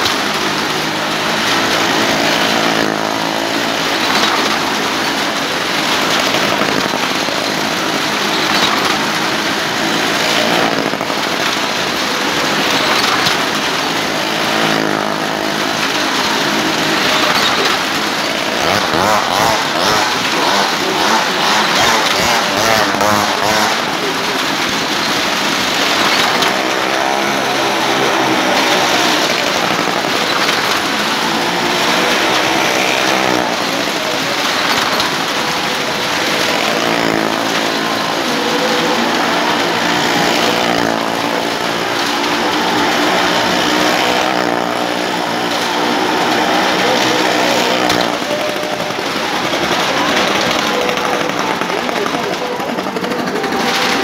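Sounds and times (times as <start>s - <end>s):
car engine running hard echoing: 0.0s - 54.0s.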